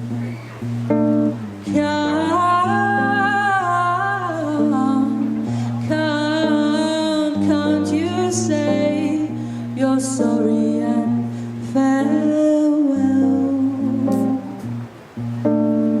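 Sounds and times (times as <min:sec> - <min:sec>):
acoustic guitar: 0:00.0 - 0:16.0
woman singing: 0:01.6 - 0:14.8.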